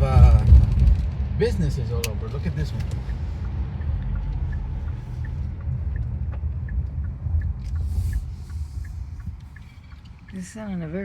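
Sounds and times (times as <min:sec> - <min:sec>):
car road and engine rumble: 0:00.0 - 0:11.0
turn signal ticking: 0:00.0 - 0:11.0.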